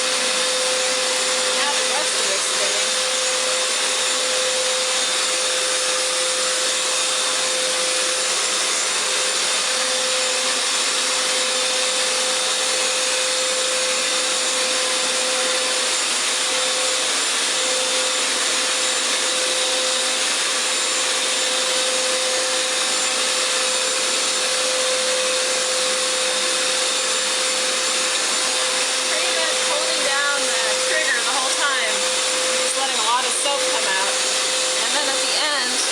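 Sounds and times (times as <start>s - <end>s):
floor washer whirring: 0.0s - 35.9s.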